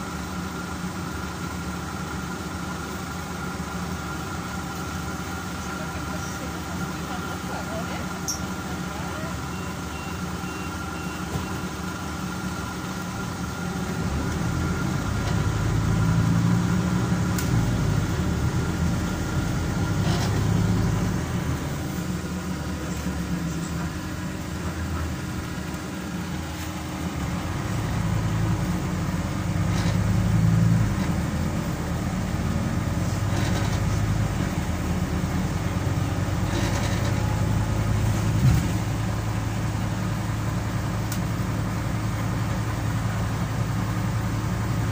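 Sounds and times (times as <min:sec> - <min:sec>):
bus diesel engine running: 0:00.0 - 0:44.9
bus body rattling: 0:04.6 - 0:44.9.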